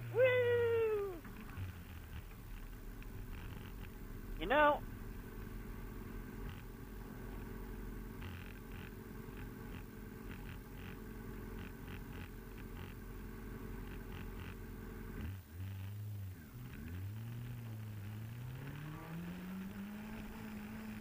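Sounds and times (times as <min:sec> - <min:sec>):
muffled motorcycle engine: 0:00.0 - 0:21.0.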